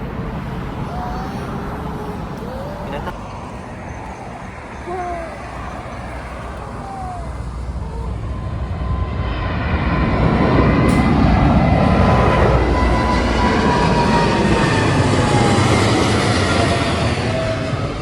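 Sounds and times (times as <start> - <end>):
jet airliner passing overhead: 0.0 - 18.0.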